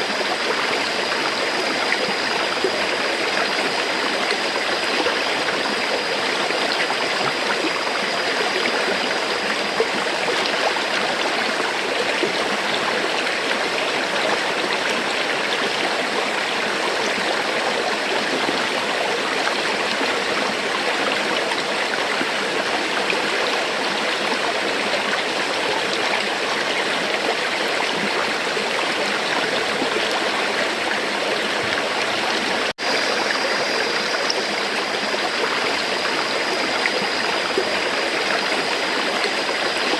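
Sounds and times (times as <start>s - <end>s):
river water rushing and gurgling: 0.0s - 39.9s.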